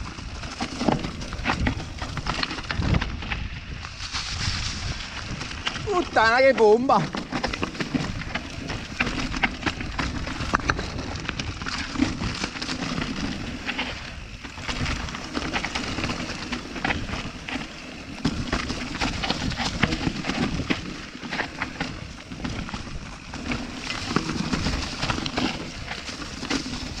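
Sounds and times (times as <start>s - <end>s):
bike rattling and knocking: 0.0s - 27.0s
bike tyres rolling over rock: 0.0s - 27.0s.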